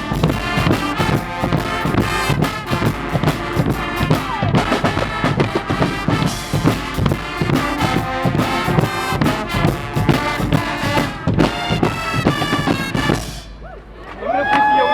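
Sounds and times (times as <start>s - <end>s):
loud brass: 0.0s - 13.7s
steady drumbeat: 0.0s - 13.9s.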